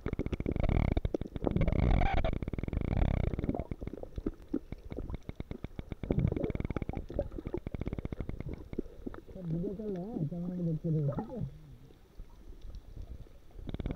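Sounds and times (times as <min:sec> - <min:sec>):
crackling clicks: 0:00.0 - 0:10.2, 0:11.0 - 0:13.9
bubbling gurgles: 0:00.0 - 0:13.9
muffled underwater rumble: 0:00.0 - 0:13.9.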